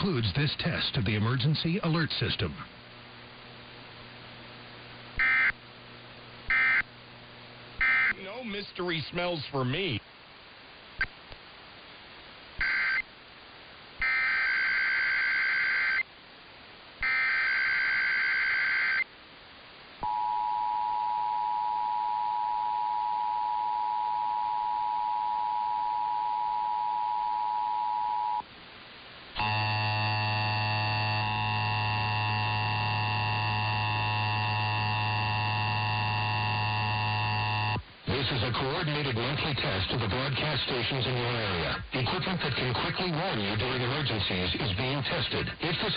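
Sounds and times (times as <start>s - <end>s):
buzzy steady tone with hum: 0.0s - 45.9s.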